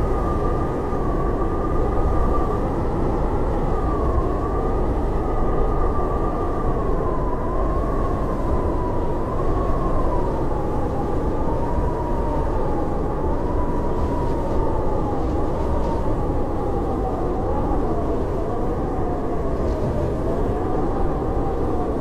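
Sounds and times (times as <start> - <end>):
howling blizzard wind: 0.0 - 22.0.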